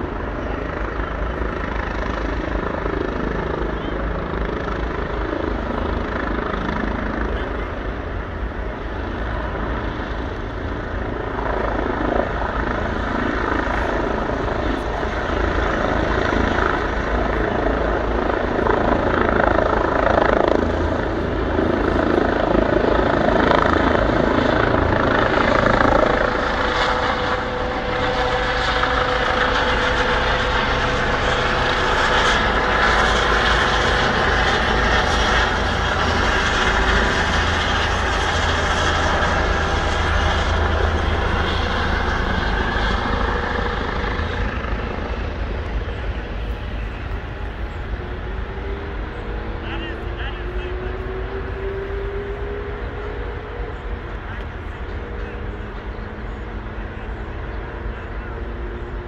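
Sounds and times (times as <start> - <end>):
helicopter rotor and engine: 0.0 - 59.0
steady whine: 0.0 - 59.0.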